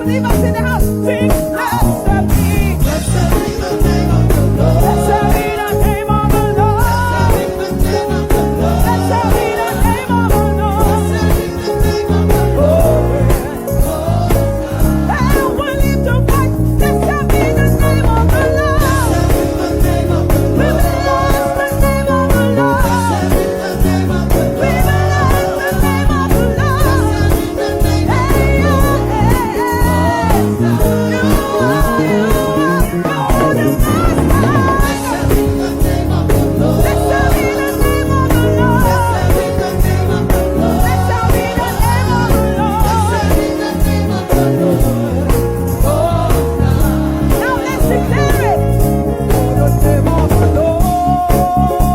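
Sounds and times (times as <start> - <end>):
driving low-end beat: 0.0 - 51.2
band playing chordal backing: 0.0 - 51.9
voices singing vocal runs: 0.0 - 51.9.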